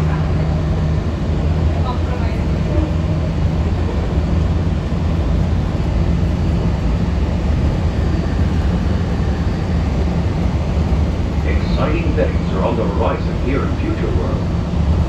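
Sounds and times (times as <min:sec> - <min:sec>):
monorail car rumble and hum: 0:00.0 - 0:15.0.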